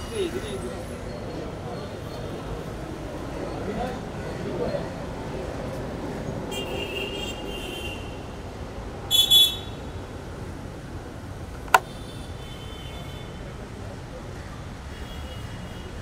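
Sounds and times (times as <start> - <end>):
street traffic rumbling: 0.0 - 16.0.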